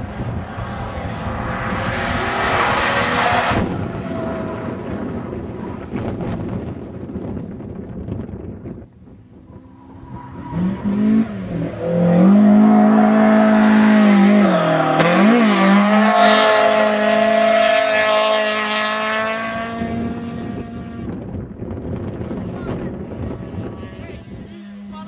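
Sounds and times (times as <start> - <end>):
car engine at high revs: 0.0 - 7.2, 9.2 - 25.0
car rushing past: 0.0 - 7.5, 9.1 - 24.9.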